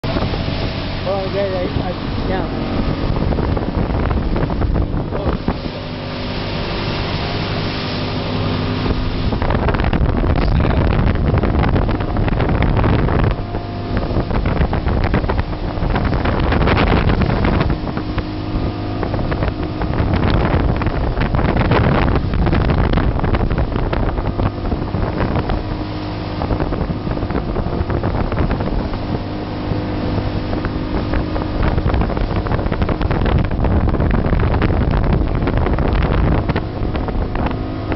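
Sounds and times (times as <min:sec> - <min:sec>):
motorboat engine running: 0:00.0 - 0:37.9
wind buffeting microphone: 0:00.0 - 0:37.9.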